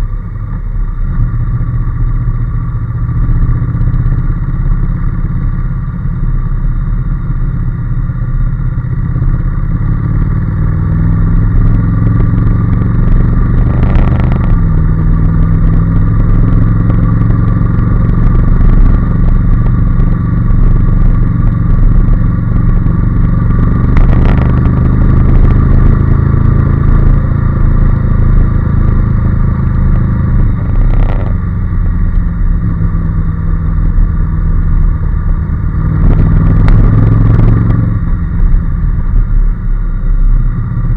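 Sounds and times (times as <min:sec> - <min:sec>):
motorcycle engine shifting gears: 0:07.7 - 0:40.9.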